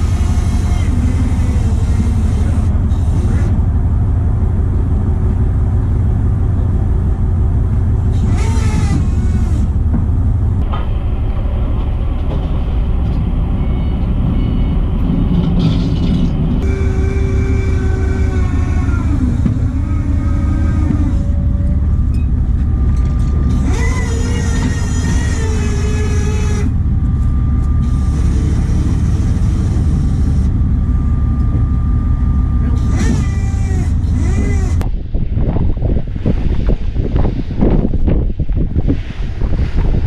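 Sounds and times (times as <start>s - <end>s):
boat engine rumbling: 0.0s - 40.0s.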